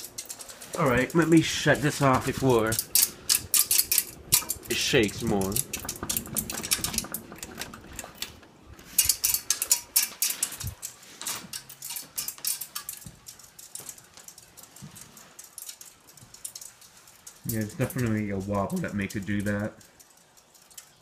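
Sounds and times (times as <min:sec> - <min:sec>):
ceiling fan light kit rattling: 0:00.0 - 0:21.0.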